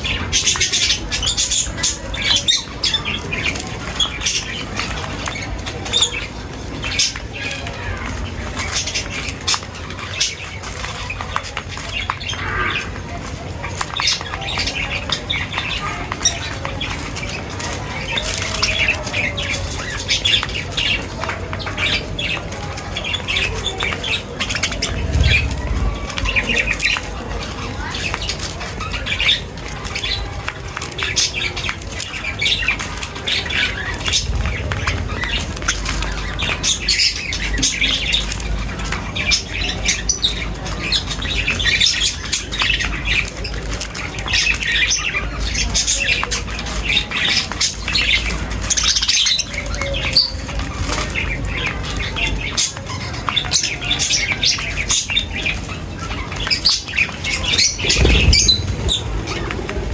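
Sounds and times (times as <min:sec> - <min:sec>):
small birds chirping and squawking: 0:00.0 - 0:59.9
wings fluttering: 0:00.2 - 0:52.7, 0:55.6 - 0:59.9.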